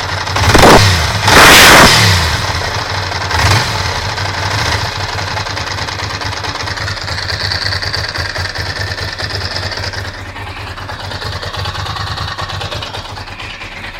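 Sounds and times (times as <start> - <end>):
motorcycle engine idling: 0.0 - 1.3, 2.0 - 13.9.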